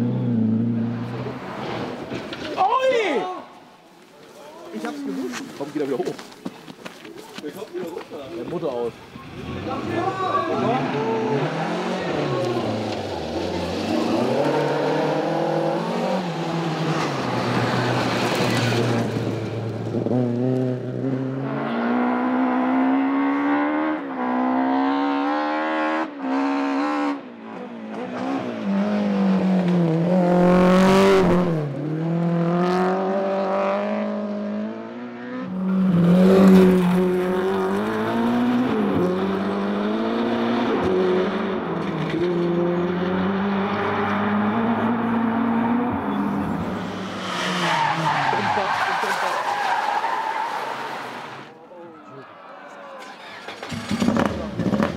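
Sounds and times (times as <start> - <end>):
rally car engines at full throttle: 0.0 - 2.6, 8.5 - 54.9.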